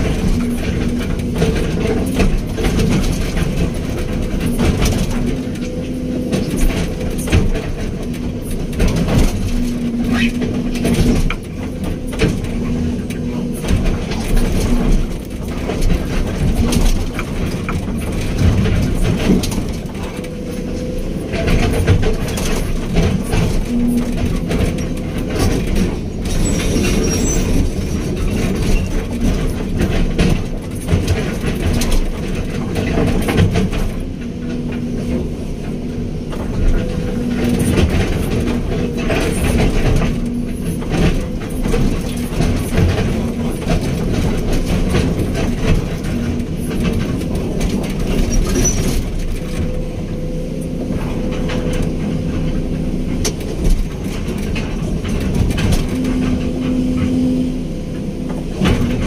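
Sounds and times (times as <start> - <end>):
machine rattling and knocking: 0.0 - 50.2, 50.8 - 57.3
diesel engine running: 0.0 - 59.0.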